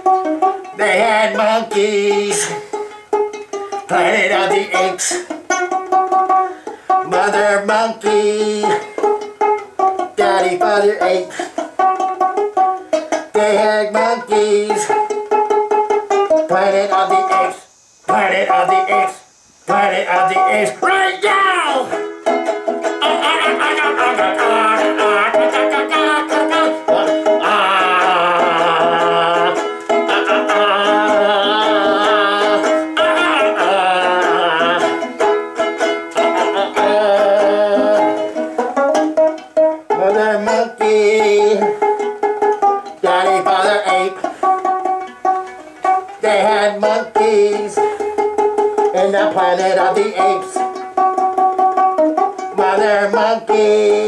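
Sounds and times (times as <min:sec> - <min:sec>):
ukulele melody and strummed chords: 0:00.0 - 0:17.6, 0:20.0 - 0:54.0.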